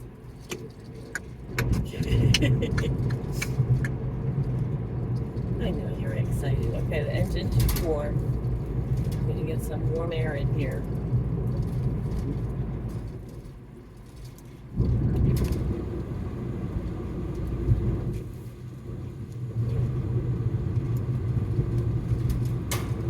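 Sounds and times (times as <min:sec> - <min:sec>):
car cabin engine and road rumble: 0:00.0 - 0:23.0.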